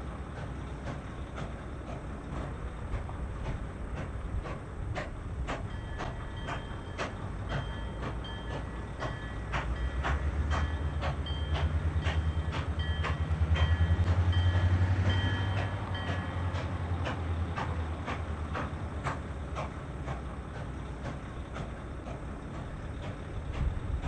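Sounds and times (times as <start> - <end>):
steam locomotive exhaust chuffs: 0.0 - 24.0.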